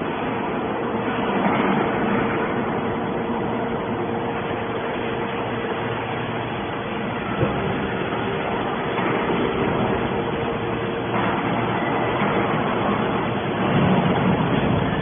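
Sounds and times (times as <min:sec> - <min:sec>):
baler machine drone: 0:00.0 - 0:15.0.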